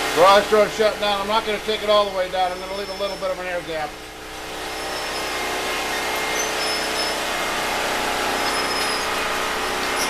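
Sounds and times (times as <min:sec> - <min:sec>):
generator engine running: 0:00.0 - 0:10.0.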